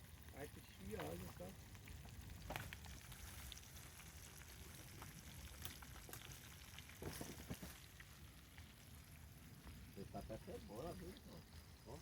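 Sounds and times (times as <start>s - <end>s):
lard sizzling in frying pan: 0.0s - 12.0s
small crackles: 0.0s - 12.0s.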